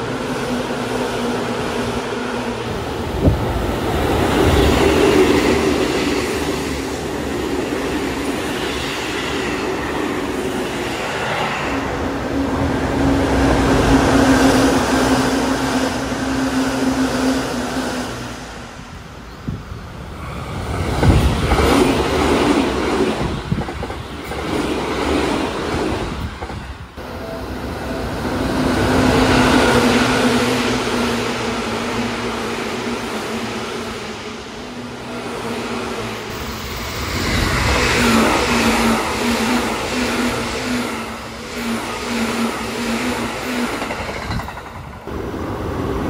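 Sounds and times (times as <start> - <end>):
train hum: 0.0 - 46.0.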